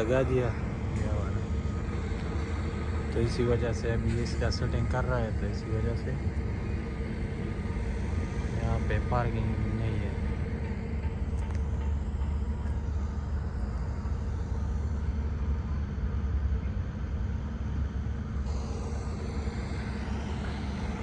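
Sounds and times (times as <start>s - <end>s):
sweeping hiss: 0.0s - 16.6s, 17.4s - 21.0s
low engine rumble: 0.0s - 21.0s.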